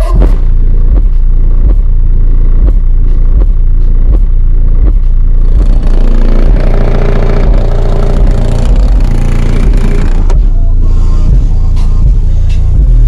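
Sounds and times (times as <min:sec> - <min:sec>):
bass-heavy music on subwoofer: 0:00.0 - 0:13.0.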